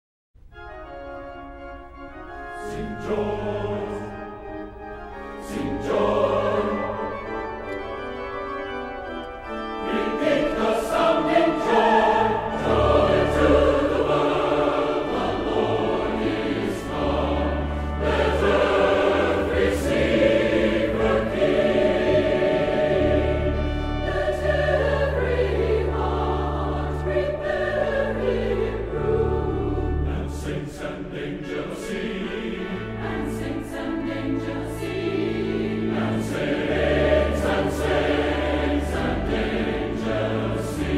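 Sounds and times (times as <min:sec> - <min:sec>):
choir singing held notes: 0:02.1 - 0:40.9.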